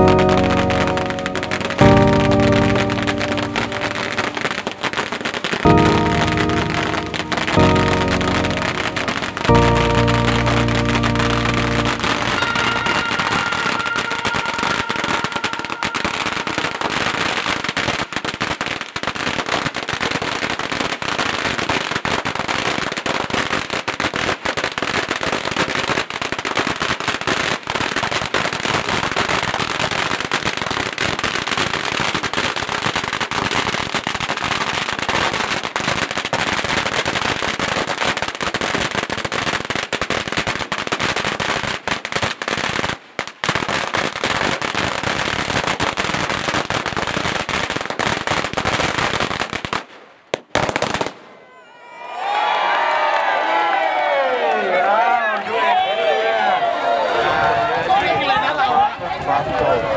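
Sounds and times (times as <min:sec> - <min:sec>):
firecrackers popping rapidly: 0:00.0 - 0:51.4.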